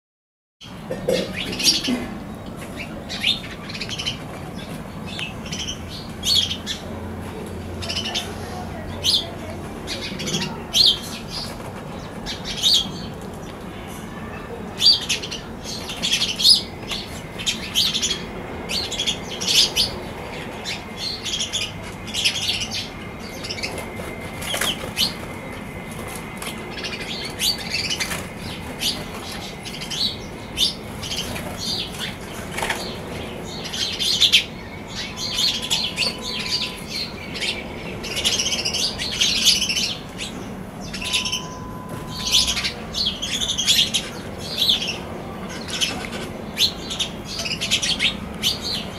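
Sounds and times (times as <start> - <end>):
sparrows chirping: 0.6 - 48.9.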